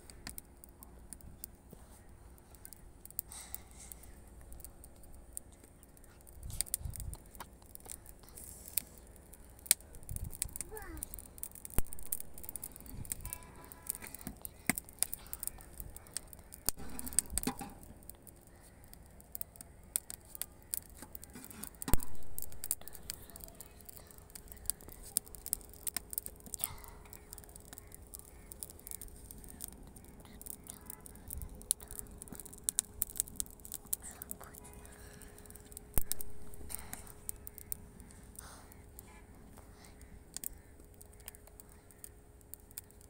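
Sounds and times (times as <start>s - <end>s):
sharp pops and clicks: 0.0s - 1.7s, 2.5s - 43.0s
faint steady hum: 0.0s - 43.0s
wood fire crackling: 0.0s - 43.0s.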